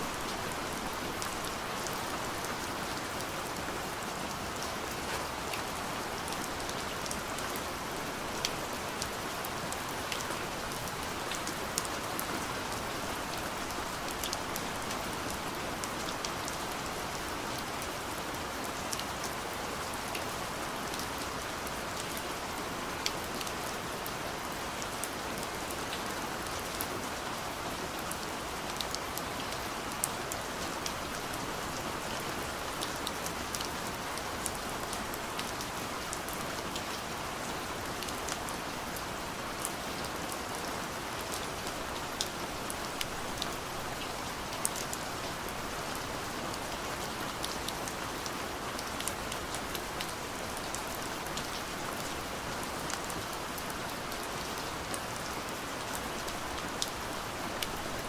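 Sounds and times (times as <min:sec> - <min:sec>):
soft rain on a window: 0:00.0 - 0:58.0.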